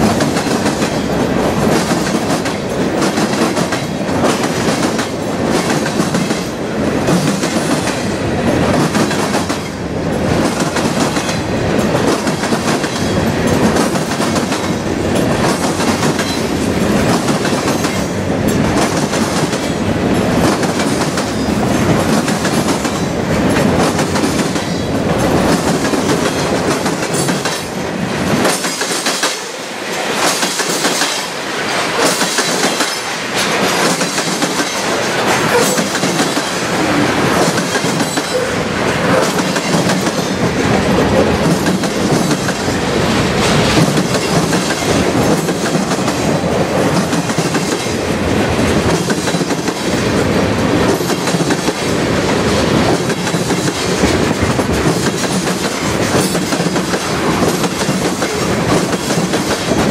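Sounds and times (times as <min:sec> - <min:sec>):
clickety-clack clatter: 0:00.0 - 0:31.3, 0:31.9 - 0:36.6, 0:37.3 - 0:42.8, 0:43.4 - 0:59.9
freight train wheels rumbling: 0:00.0 - 0:59.9.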